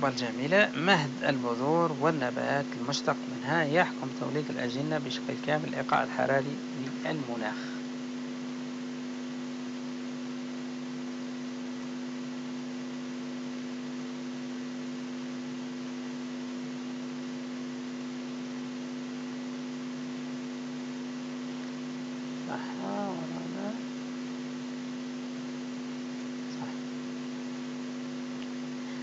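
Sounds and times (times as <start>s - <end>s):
constant hiss: 0.0s - 29.0s
electrical hum: 0.0s - 29.0s.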